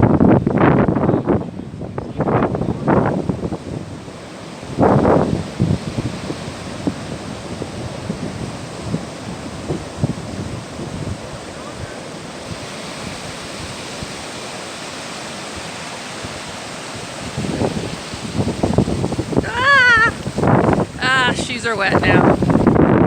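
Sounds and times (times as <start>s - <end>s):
ocean surf on a beach: 0.0s - 23.0s
wind buffeting the microphone: 0.0s - 23.0s.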